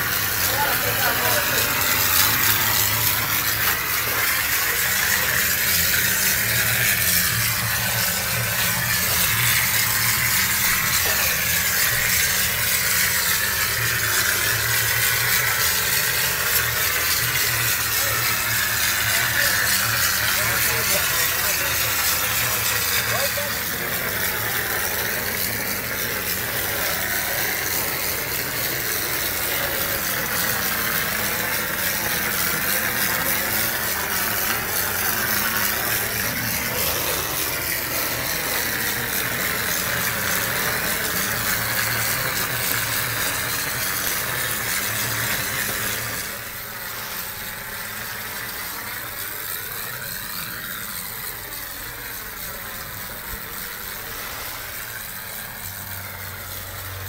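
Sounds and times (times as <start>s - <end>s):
plaster-spraying machine hissing: 0.0s - 57.0s.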